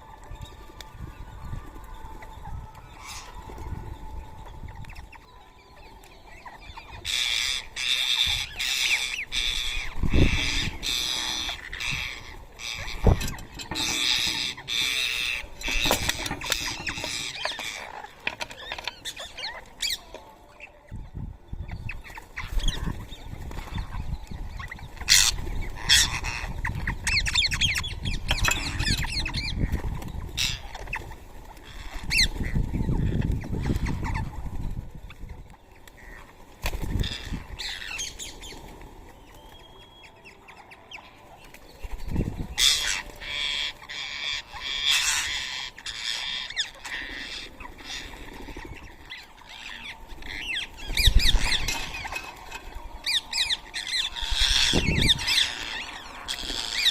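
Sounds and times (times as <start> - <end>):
parakeets squawking and chattering: 0.0 - 56.9.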